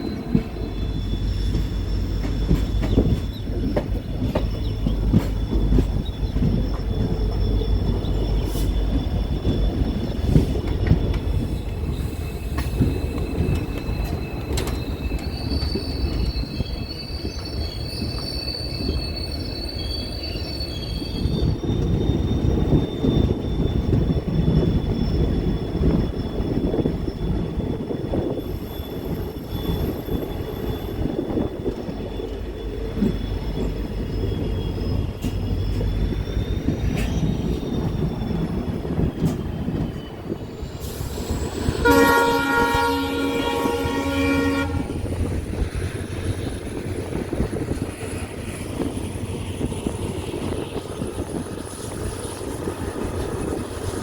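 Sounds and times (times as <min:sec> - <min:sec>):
high-pitched wheel squeal: 0:00.0 - 0:54.0
rail clacks: 0:00.0 - 0:54.0
train coaches rumbling: 0:00.0 - 0:54.0.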